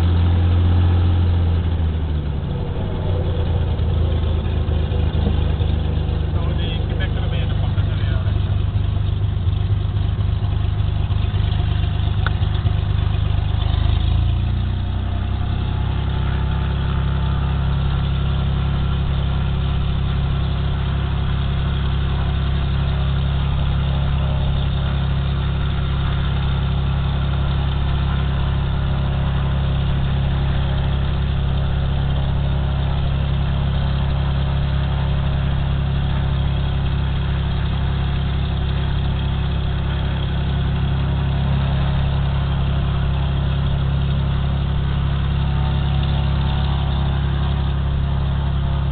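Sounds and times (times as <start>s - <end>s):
propeller plane engine from cockpit: 0.0s - 48.9s.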